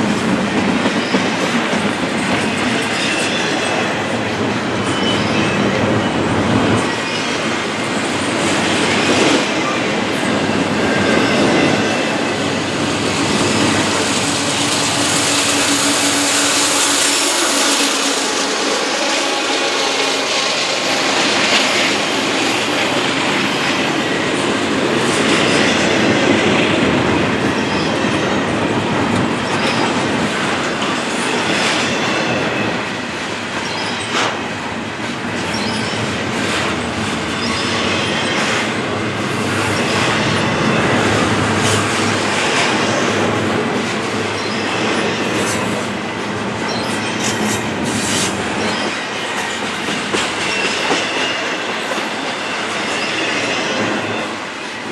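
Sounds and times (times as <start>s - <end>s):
train wheels clacking over rails: 0.0s - 54.9s
high wheel squeal: 1.0s - 34.5s, 35.4s - 54.9s.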